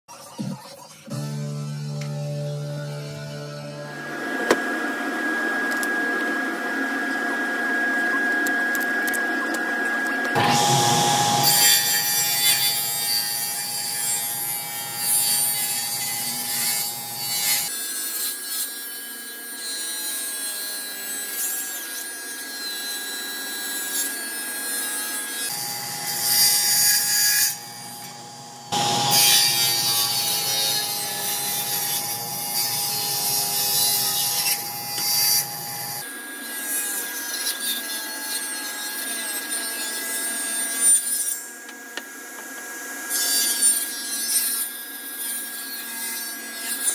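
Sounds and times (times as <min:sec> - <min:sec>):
table saw blade whine: 0:01.1 - 0:46.9.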